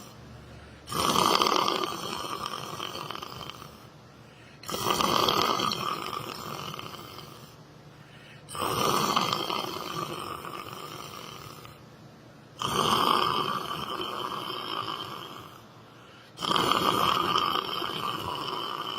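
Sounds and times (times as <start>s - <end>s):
person snoring: 0.0s - 7.6s, 8.2s - 11.8s, 12.6s - 18.9s.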